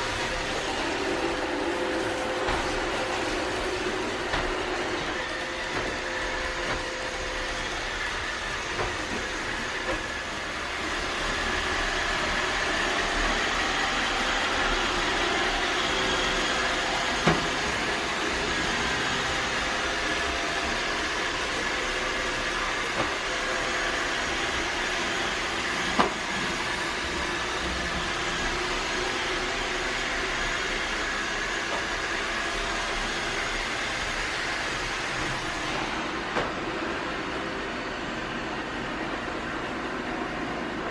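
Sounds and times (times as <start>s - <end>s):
vacuum cleaner whirring: 0.0s - 40.9s.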